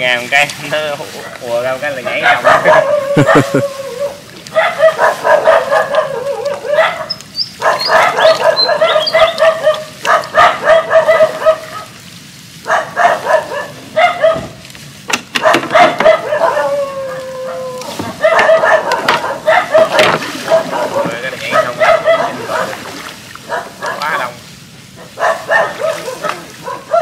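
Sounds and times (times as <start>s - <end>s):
dogs barking: 1.0s - 14.6s, 15.3s - 27.0s
dog drawn-out cry: 2.0s - 12.0s, 12.6s - 14.6s, 15.4s - 22.8s, 23.4s - 24.1s, 25.0s - 27.0s.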